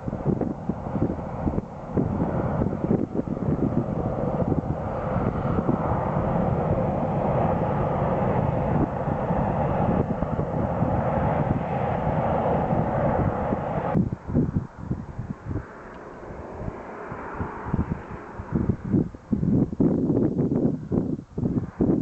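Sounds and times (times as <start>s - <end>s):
jet engines roaring: 0.0s - 19.4s
wind buffeting microphone: 0.0s - 22.0s.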